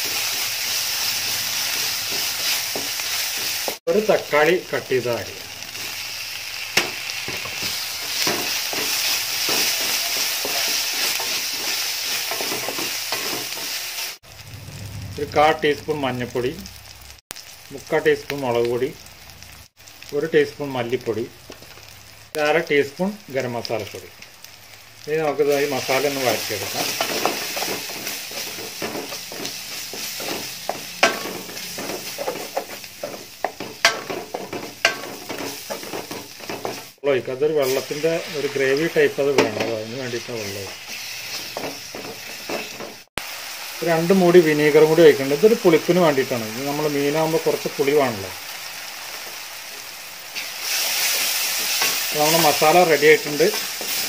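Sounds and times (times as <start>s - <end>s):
vegetables sizzling in a pan: 0.0s - 54.0s.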